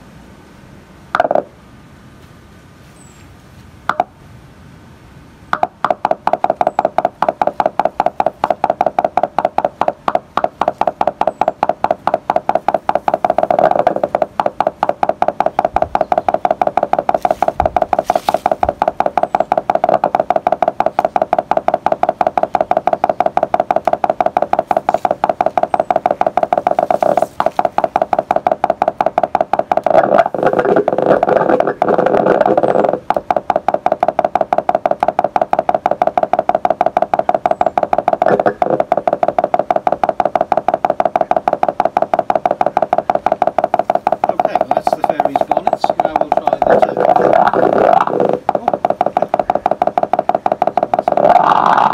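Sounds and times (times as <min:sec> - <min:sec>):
rapid electronic beeps: 0:05.6 - 0:51.9.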